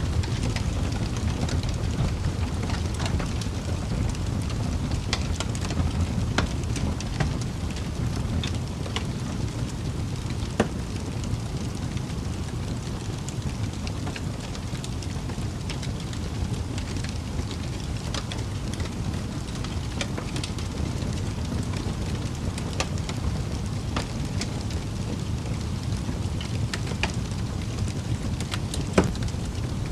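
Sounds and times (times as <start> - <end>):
fire crackling and popping: 0.0 - 29.9
low rumble of fire: 0.0 - 29.9.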